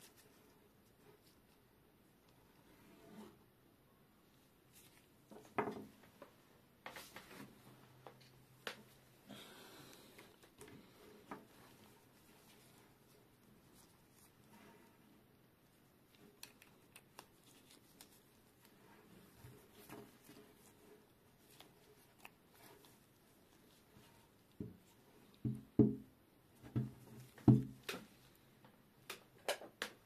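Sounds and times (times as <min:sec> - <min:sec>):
soft rustle: 0:00.0 - 0:03.5, 0:04.2 - 0:25.4.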